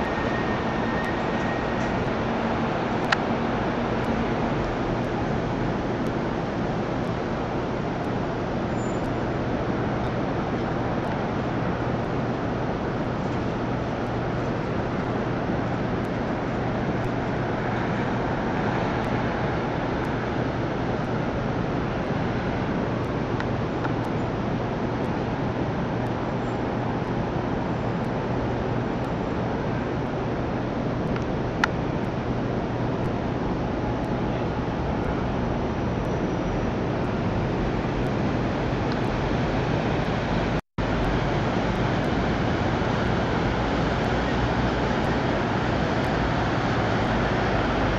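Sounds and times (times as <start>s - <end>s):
city traffic noise: 0.0s - 47.9s
constant low hum: 0.0s - 47.9s.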